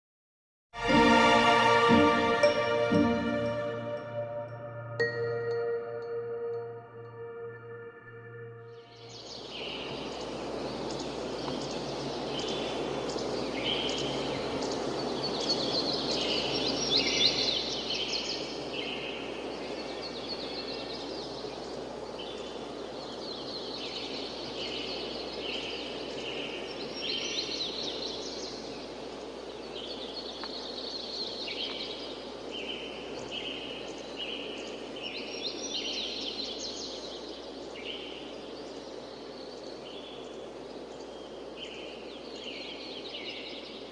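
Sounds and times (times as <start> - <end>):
rain: 0.8 - 4.2, 9.2 - 43.9
wind: 0.8 - 43.9
birds chirping and trilling: 2.4 - 43.9.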